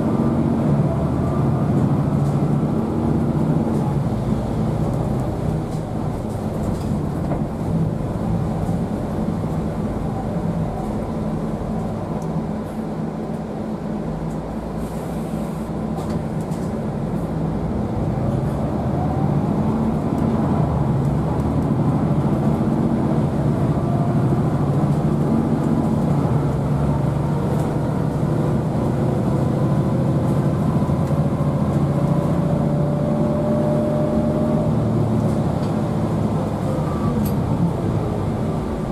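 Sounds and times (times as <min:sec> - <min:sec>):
bus diesel engine: 0:00.0 - 0:38.9.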